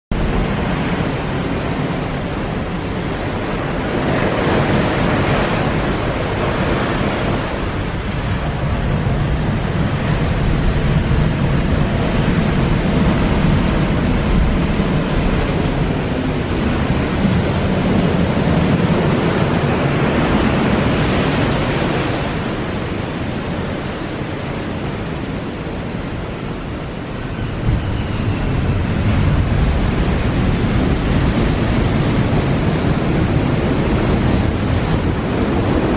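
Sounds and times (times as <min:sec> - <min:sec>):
ocean surf breaking on rocks: 0:00.1 - 0:35.9.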